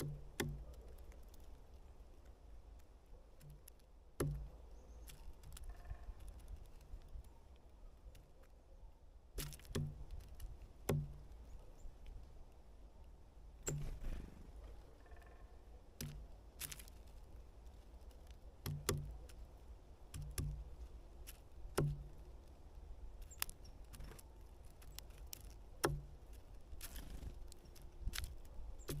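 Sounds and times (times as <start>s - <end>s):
woodpecker pecking at wood: 0.0s - 8.6s, 9.4s - 12.6s, 13.6s - 29.0s.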